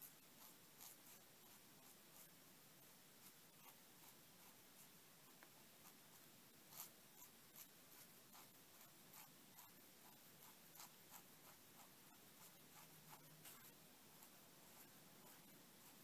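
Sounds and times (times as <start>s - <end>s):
pen nib scratching on paper: 0.0s - 16.0s.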